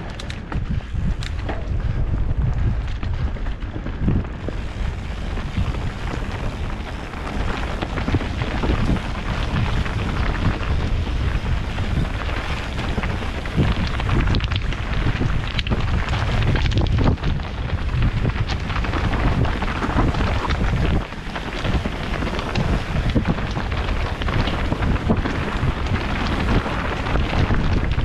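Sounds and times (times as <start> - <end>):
bike knocks and rattles: 0.0 - 28.0
tyres rumbling on dirt and rock: 0.0 - 28.0
wind buffeting microphone: 0.0 - 28.0.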